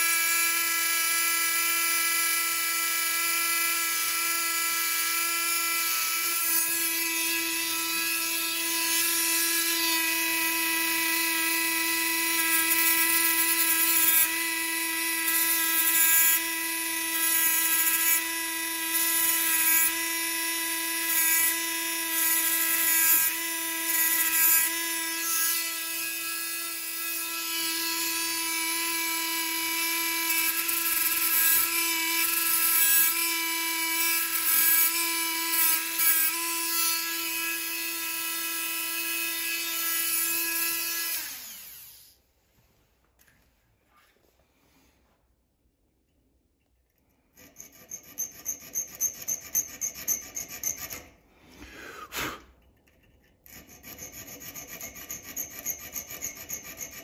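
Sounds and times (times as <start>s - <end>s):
rotary tool whining: 0.1s - 42.2s, 47.3s - 51.2s, 52.8s - 57.0s.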